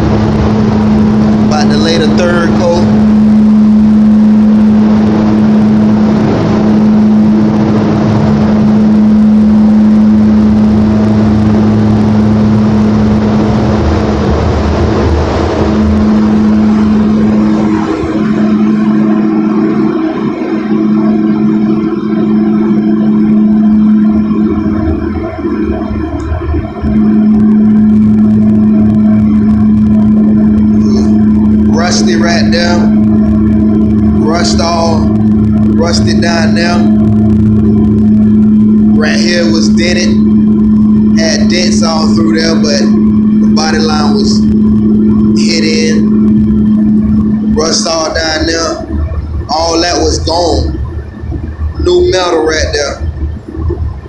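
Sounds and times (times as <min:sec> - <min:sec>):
loud machine hum: 0:00.0 - 0:54.0.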